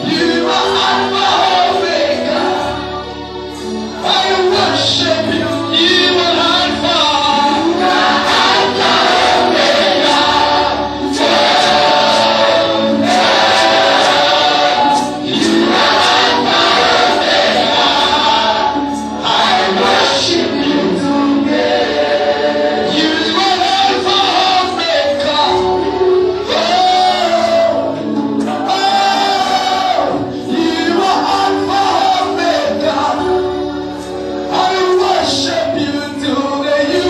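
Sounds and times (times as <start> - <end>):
choir singing gospel: 0.0 - 37.0.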